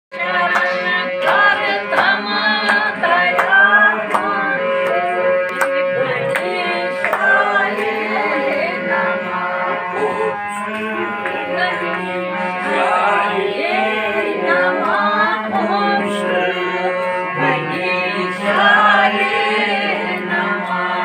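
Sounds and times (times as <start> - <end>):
devotional singing: 0.1 - 21.0
harmonium chords: 0.1 - 21.0.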